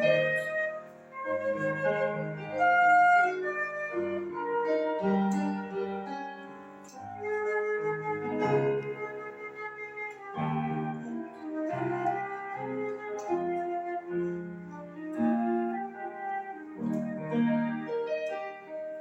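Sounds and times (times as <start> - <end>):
flute melody: 0.0 - 19.0
piano accompaniment: 0.0 - 19.0.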